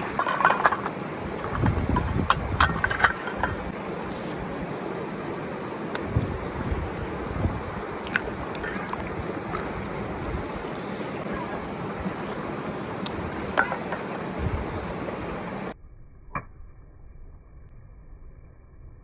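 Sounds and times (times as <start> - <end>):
river water rushing: 0.0 - 15.8.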